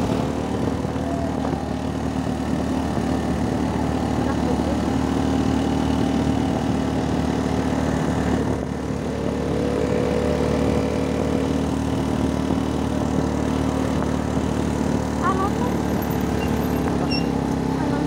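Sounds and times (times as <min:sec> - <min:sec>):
two-stroke motorcycle engine running: 0:00.0 - 0:18.0.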